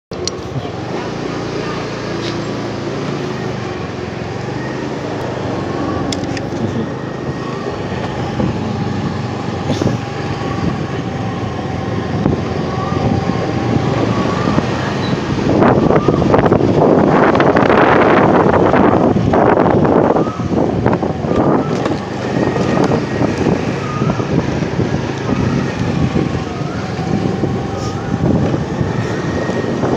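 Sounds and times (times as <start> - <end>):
traffic noise: 0.1 - 29.9
wind buffeting microphone: 0.1 - 29.9.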